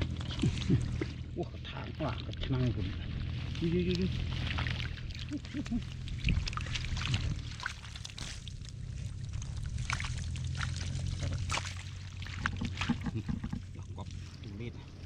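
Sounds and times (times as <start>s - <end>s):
steady low rumble: 0.0s - 15.0s
water splashing and trickling: 0.0s - 15.0s.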